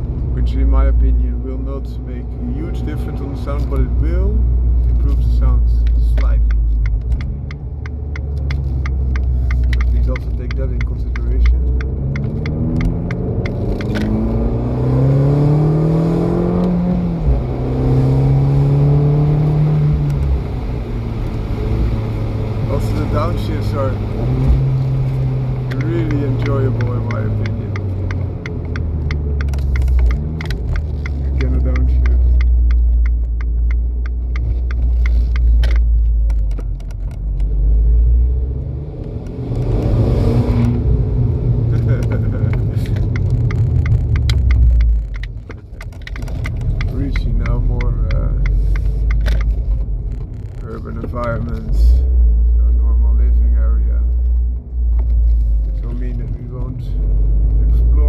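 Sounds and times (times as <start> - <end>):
car engine accelerating: 0.0 - 58.0
exhaust crackles: 0.0 - 58.0.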